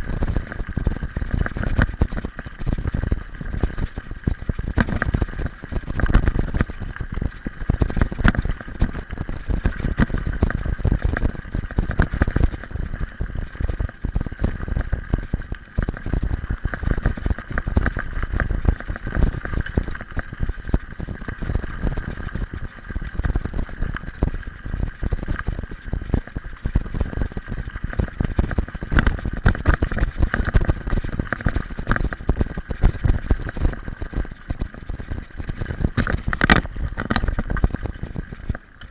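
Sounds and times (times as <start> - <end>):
bike rattling rumble: 0.0 - 38.9.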